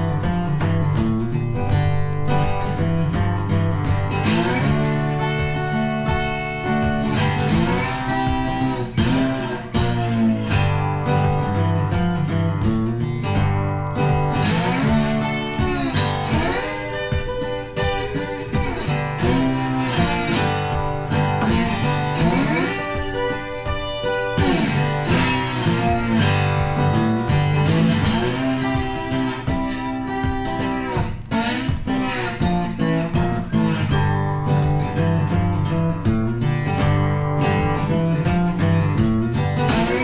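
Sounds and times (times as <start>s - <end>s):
guitar music with sliding notes: 0.0s - 40.0s
steady bass line: 0.0s - 40.0s.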